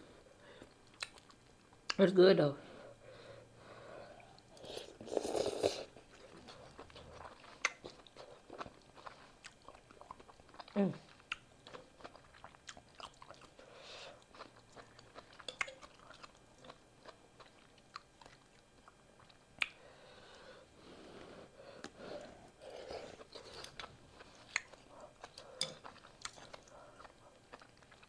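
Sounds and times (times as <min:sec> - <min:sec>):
person chewing noodles: 0:00.5 - 0:02.0, 0:03.6 - 0:28.0.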